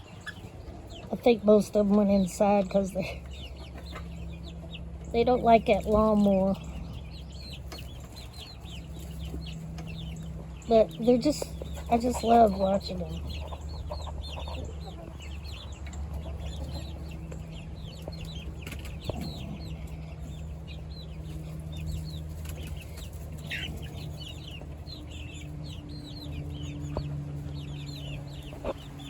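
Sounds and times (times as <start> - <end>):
chickens cheeping: 0.0 - 29.0
lawnmower engine humming: 0.0 - 29.0.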